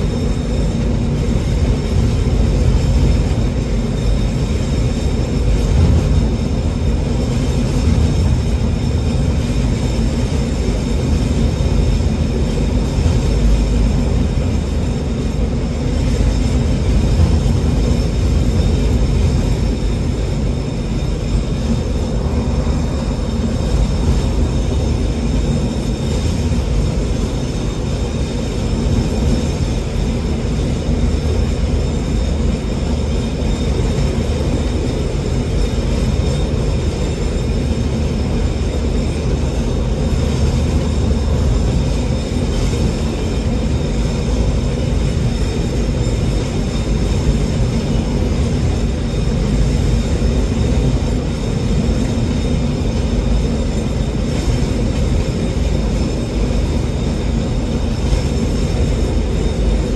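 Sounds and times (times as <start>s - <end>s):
diesel engine drone: 0.0s - 59.9s
wheels on rails: 0.0s - 59.9s.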